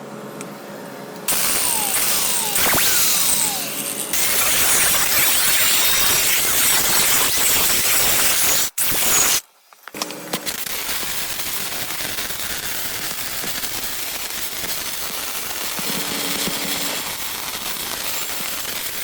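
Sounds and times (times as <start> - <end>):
welding arc crackling and hissing: 1.3 - 19.0.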